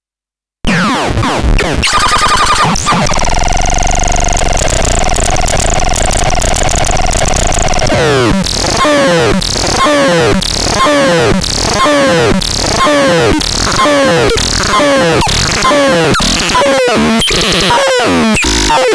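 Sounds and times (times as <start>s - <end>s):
synthesizer noisy gliding tones: 1.8s - 18.9s.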